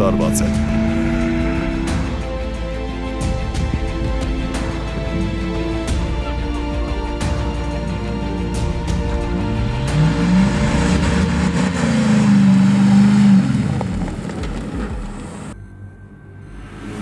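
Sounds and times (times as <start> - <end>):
off-road vehicle engine revving: 0.0 - 15.6.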